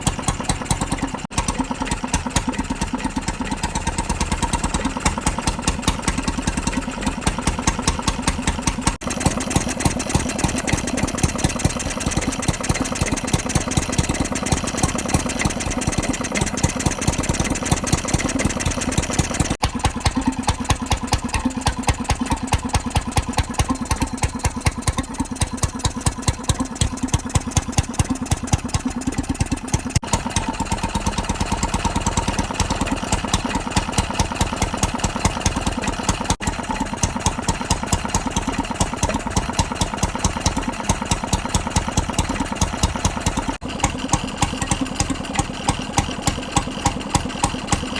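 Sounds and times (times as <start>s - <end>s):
stationary engine running: 0.0s - 47.9s.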